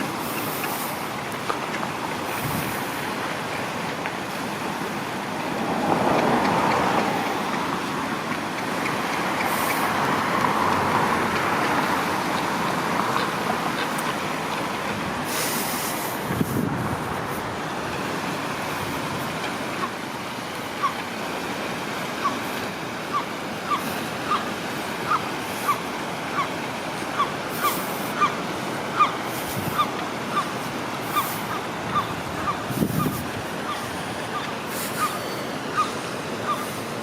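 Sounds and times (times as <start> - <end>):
distant traffic: 0.0 - 37.0
flowing water: 0.0 - 37.0.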